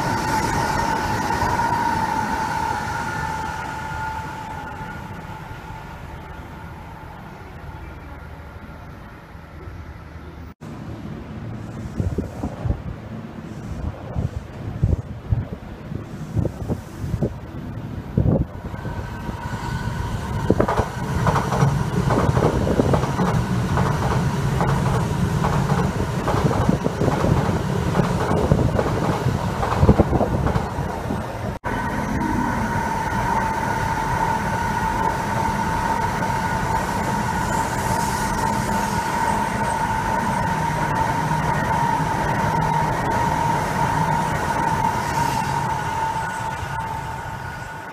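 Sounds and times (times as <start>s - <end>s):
high-pitched train whine: 0.0s - 12.6s, 17.0s - 47.9s
train rumble: 0.0s - 47.9s.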